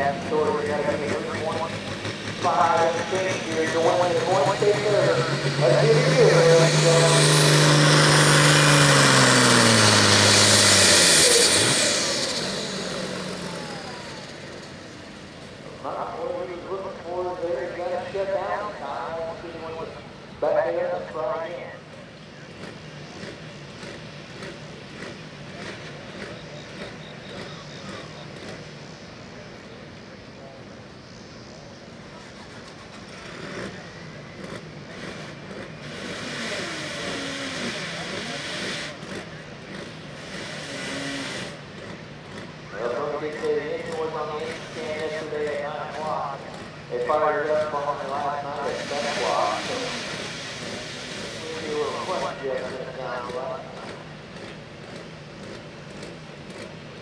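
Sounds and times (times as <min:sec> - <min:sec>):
diesel tractor engine at full throttle: 0:00.0 - 0:57.0
faint turbo whine: 0:00.0 - 0:57.0.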